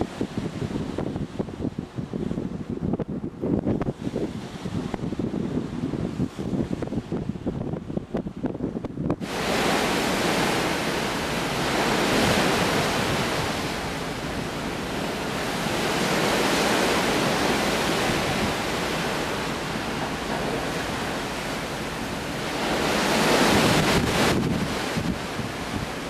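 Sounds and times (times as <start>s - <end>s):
sea waves washing: 0.0s - 26.0s
wind on microphone: 0.0s - 26.0s.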